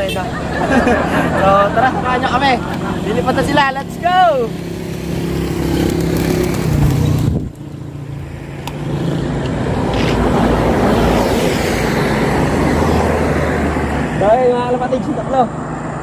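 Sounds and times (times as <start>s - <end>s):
road traffic noise: 0.0s - 16.0s
vehicle engine humming: 0.0s - 16.0s.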